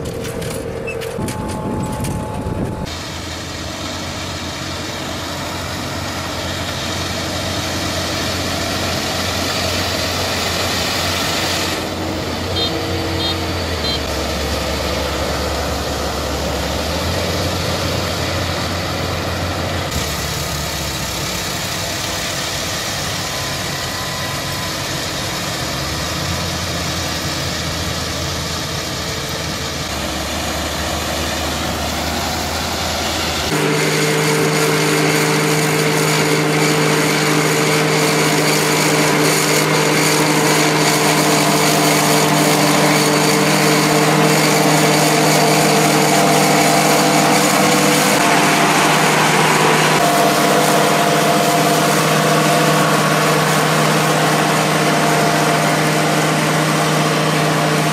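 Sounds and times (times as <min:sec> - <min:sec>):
combine harvester running: 0:00.0 - 0:57.9
harvester machine hum with held tones: 0:00.0 - 0:57.9.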